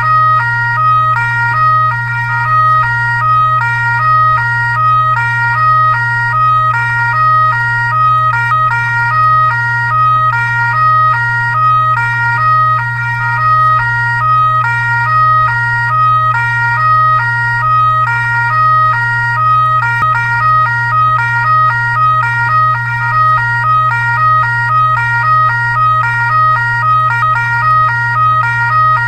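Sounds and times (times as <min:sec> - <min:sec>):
steady low hum: 0:00.0 - 0:29.0
two-tone fire truck siren: 0:00.0 - 0:29.0.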